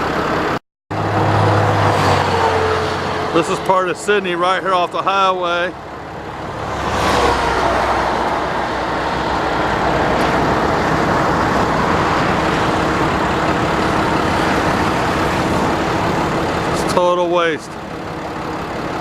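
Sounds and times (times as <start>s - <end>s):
vehicle road and wind noise: 0.0s - 19.0s.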